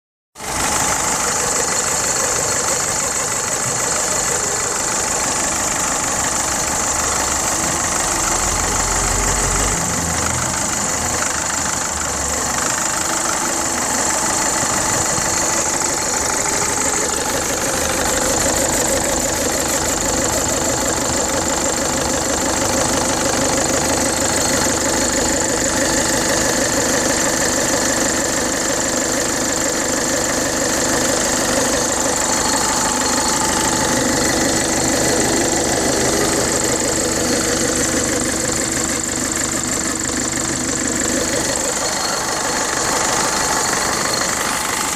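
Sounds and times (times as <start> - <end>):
diesel engine running: 0.4 - 44.9.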